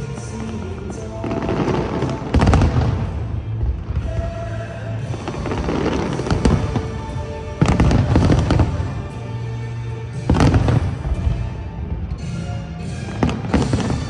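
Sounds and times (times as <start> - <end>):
fireworks bursting and crackling: 0.0 - 14.0
music: 0.0 - 14.0.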